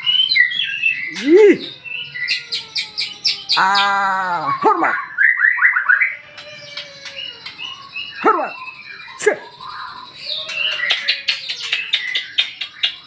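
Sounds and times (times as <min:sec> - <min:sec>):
songbird singing whistled song: 0:00.0 - 0:13.0.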